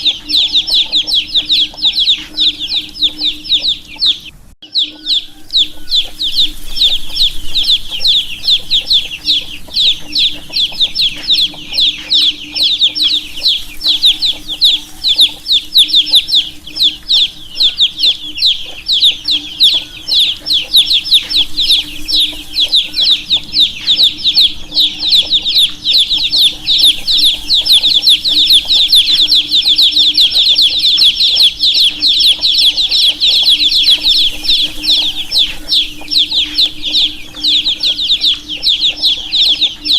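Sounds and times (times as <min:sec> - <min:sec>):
baby chicks peeping: 0:00.0 - 0:39.9
faint low hum: 0:00.0 - 0:39.9.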